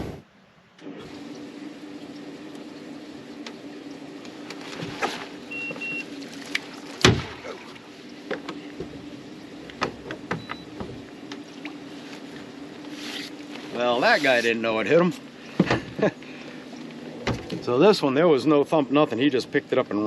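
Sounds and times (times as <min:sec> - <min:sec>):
low electric hum: 0:00.0 - 0:20.0.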